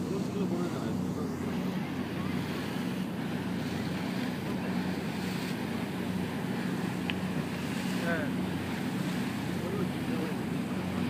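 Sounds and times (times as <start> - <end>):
boat engine humming: 0.0 - 11.0
water rushing past hull: 0.0 - 11.0.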